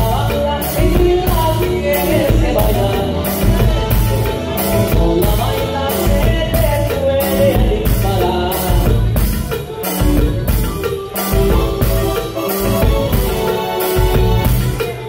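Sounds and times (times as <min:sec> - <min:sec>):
bajo sexto strumming: 0:00.0 - 0:15.0
button accordion melody: 0:00.0 - 0:15.0
drum kit beat: 0:00.0 - 0:15.0
electric bass: 0:00.0 - 0:15.0.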